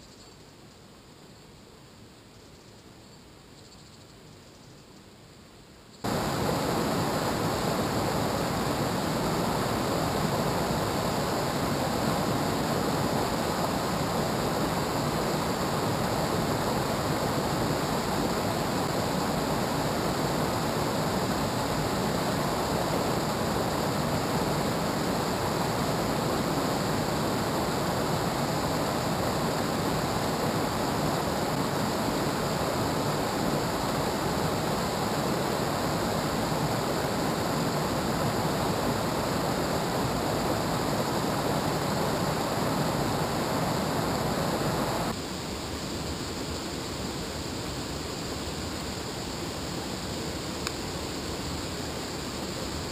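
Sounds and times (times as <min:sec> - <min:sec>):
river rushing over rapids: 0:06.1 - 0:52.9.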